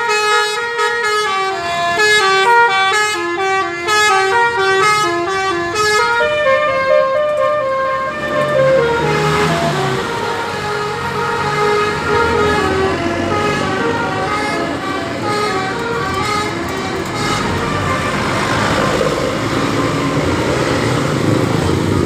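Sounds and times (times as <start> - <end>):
musical air horn tune: 0.0 - 18.4.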